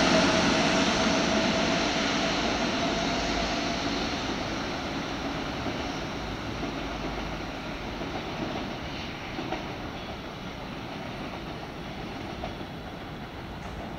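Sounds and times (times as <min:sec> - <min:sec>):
train pulling away: 0:00.0 - 0:13.9.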